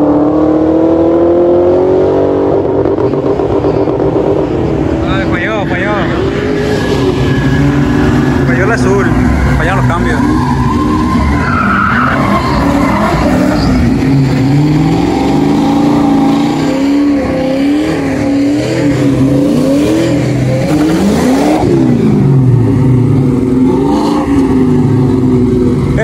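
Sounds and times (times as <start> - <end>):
car engines idling and revving: 0.0 - 26.0.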